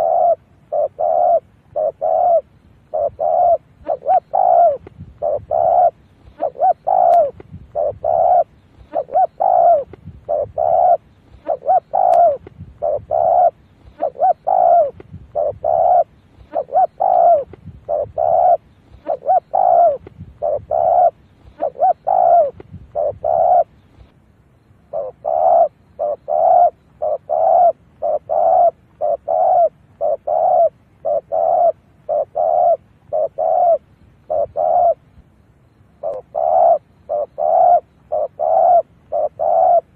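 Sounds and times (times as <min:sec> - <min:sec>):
dove cooing: 0:00.0 - 0:24.1, 0:24.9 - 0:35.2, 0:36.0 - 0:39.9.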